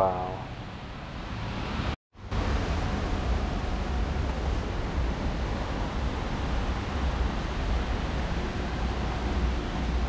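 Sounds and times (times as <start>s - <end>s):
low rumble of city traffic: 0.0s - 10.0s.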